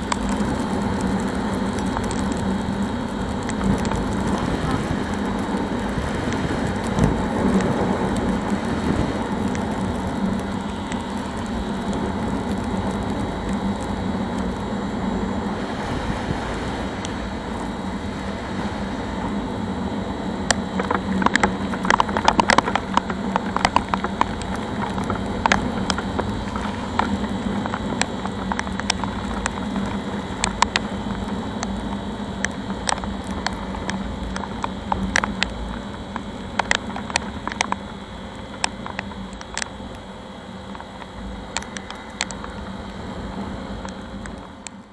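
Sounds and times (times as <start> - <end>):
wind noise: 0.0 - 44.8
motorcycle engine hum: 0.0 - 44.9
rain noise: 0.0 - 44.9
raindrops ticking on helmet: 0.0 - 44.9.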